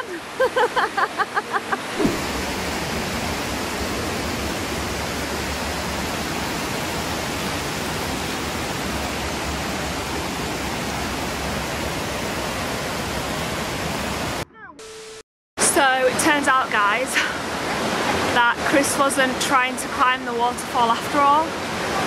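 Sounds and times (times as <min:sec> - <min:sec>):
waterfall rushing over rocks: 0:00.0 - 0:14.4, 0:16.0 - 0:22.0.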